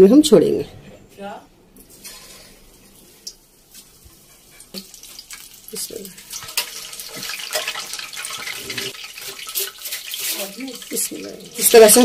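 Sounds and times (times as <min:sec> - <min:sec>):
batter deep-frying in oil: 0:01.8 - 0:12.0.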